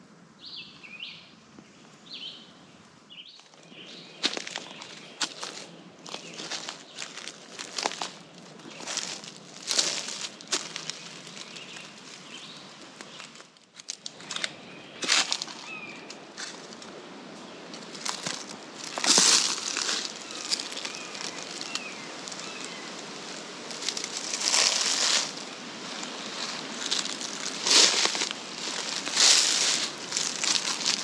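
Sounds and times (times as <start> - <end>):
footsteps crunching through dry leaves: 3.3 - 31.0.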